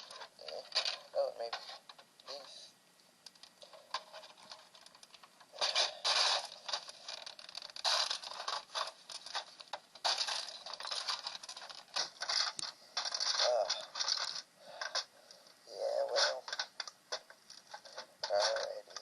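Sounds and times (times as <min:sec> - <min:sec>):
small hard parts rattling and clinking: 0:00.0 - 0:02.6, 0:03.3 - 0:19.0.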